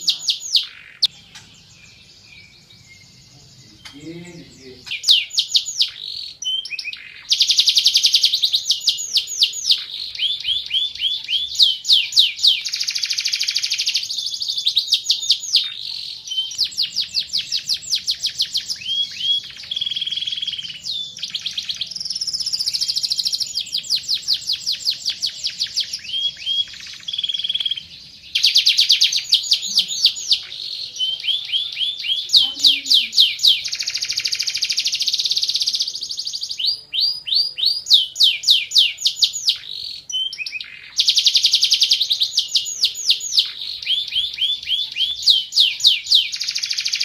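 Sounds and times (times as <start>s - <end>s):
canary singing trills: 0.0s - 47.0s.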